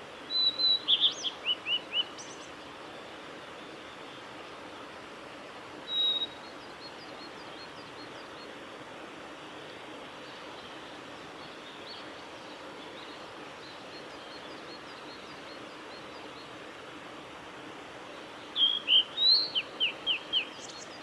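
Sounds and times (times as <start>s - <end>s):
forest background: 0.0s - 21.0s.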